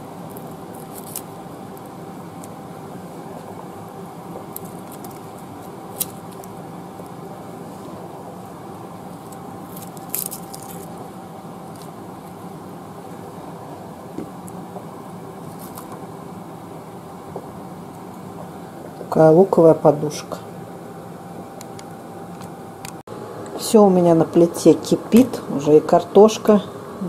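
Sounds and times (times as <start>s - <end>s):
kitchen hum: 0.0s - 27.0s.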